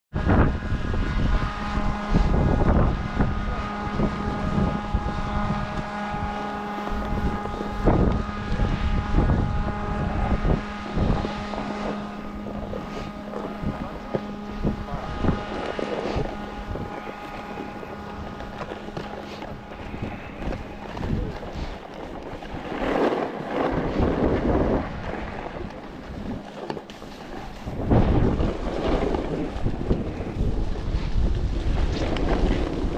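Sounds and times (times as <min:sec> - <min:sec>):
gusty wind buffeting microphone: 0:00.1 - 0:32.9
steady machine hum: 0:00.1 - 0:32.9.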